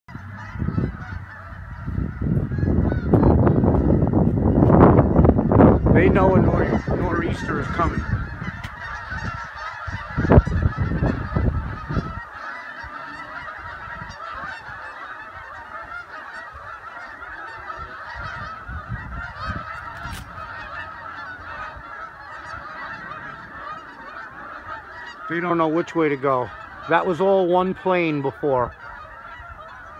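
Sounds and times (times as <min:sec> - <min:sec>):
geese honking in flight: 0:00.1 - 0:29.9
wind gusts on microphone: 0:00.1 - 0:29.9.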